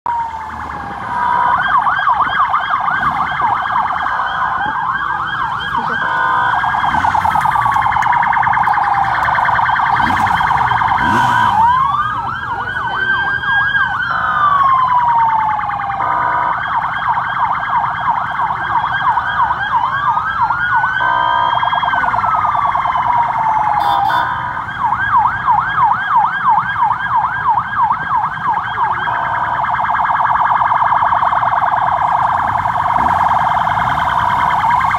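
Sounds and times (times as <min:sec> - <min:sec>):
emergency vehicle sirens: 0:00.0 - 0:34.9.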